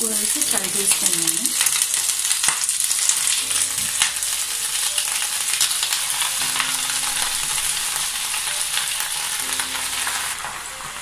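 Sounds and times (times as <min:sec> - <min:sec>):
spinach sizzling in hot oil: 0:00.0 - 0:11.0.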